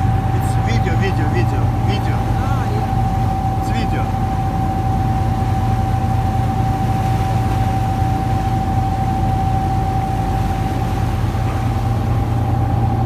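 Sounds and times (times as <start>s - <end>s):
boat engines droning: 0.0s - 13.0s
engine high whine: 0.0s - 13.0s.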